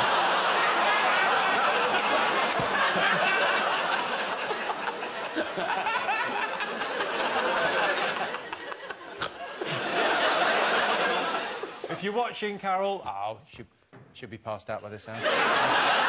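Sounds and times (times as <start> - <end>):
studio audience laughing: 0.0 - 12.1, 15.1 - 16.0.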